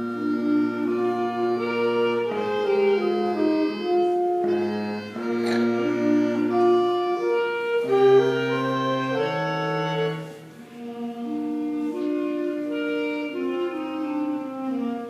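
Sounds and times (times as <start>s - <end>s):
wind band playing chords: 0.0s - 15.0s.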